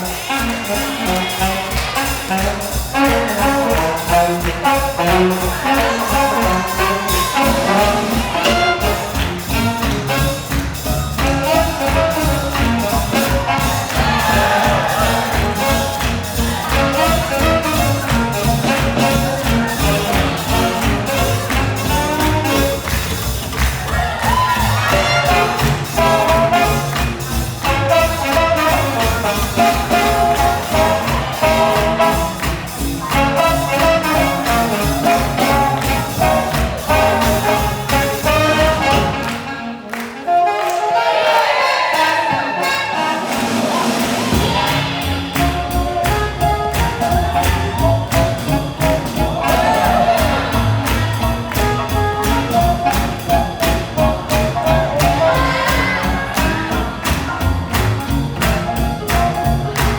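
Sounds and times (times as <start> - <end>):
swing jazz band with brass: 0.0 - 59.9.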